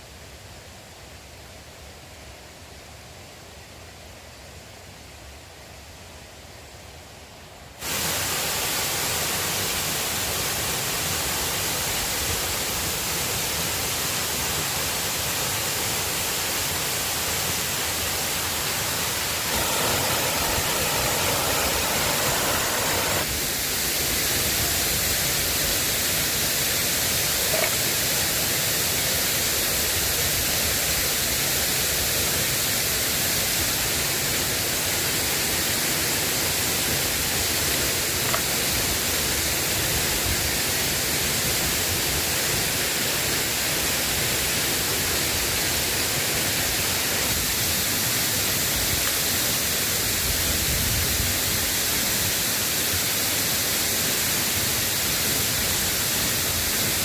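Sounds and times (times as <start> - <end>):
steady rain falling: 7.8 - 57.0.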